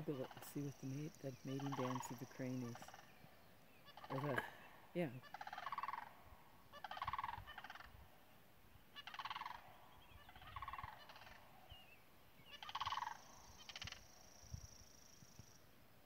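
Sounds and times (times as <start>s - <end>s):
cranes calling: 0.0s - 15.4s.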